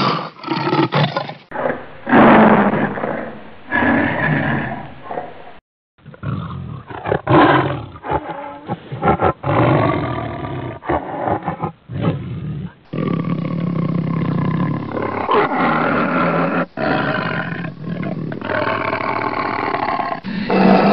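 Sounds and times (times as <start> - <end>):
tiger growling: 0.0 - 20.9.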